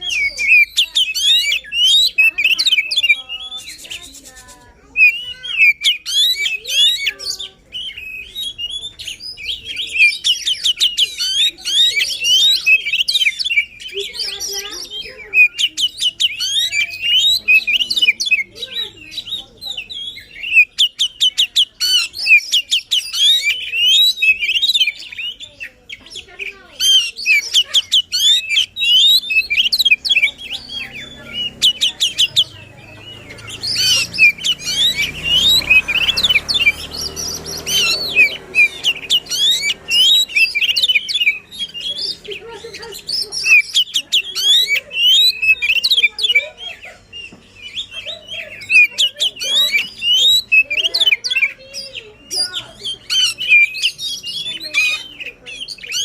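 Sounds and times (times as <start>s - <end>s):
bird singing chirps and trills: 0.0s - 56.0s.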